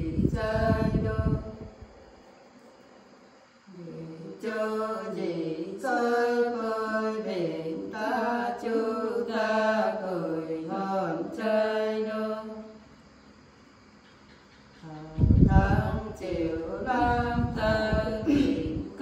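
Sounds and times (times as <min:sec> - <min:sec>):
women singing unaccompanied: 0:00.0 - 0:01.8, 0:03.7 - 0:12.9, 0:14.8 - 0:19.0.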